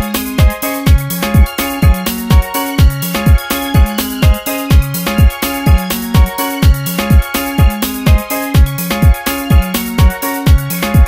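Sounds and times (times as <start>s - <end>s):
upbeat dance music: 0.0s - 11.0s.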